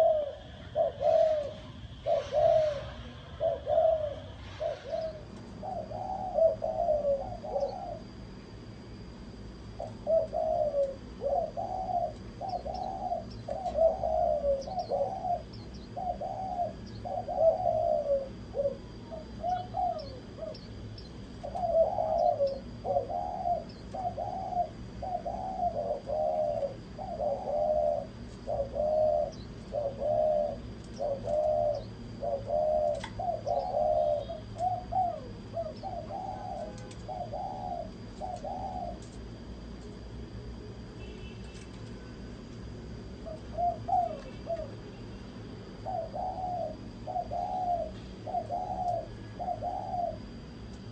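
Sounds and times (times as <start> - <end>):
small birds chirping: 0.0 - 8.7, 9.6 - 39.5, 43.2 - 50.9
dove cooing: 0.0 - 39.6, 43.0 - 45.0, 45.6 - 50.9.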